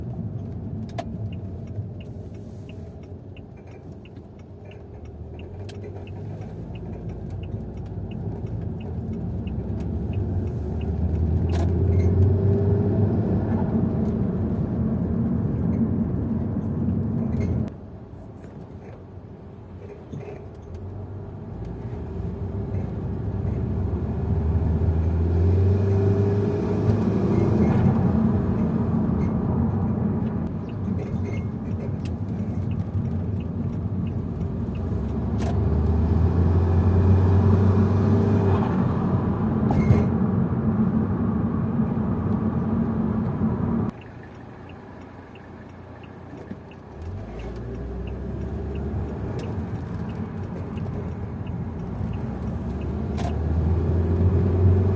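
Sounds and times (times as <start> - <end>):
turbocharged car engine accelerating: 5.2 - 17.7, 21.5 - 54.9.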